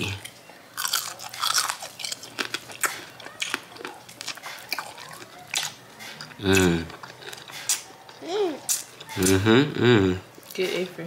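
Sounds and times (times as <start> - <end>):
crunching and chewing chicken wing: 0.0 - 9.4.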